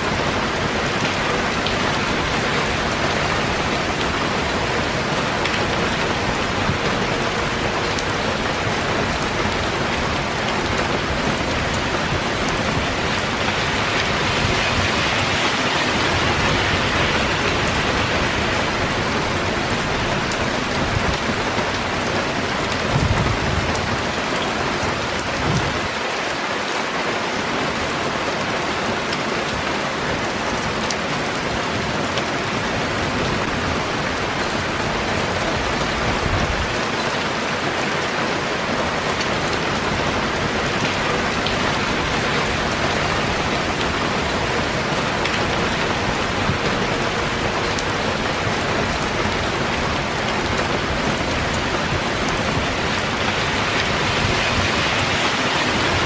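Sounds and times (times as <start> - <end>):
heavy rain on trees and pavement: 0.0 - 56.0.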